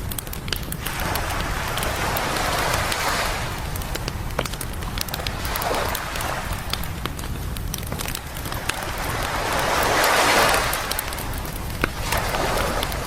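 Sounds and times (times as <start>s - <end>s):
campfire crackling and popping: 0.0s - 13.0s
waves washing onto beach: 0.0s - 13.0s.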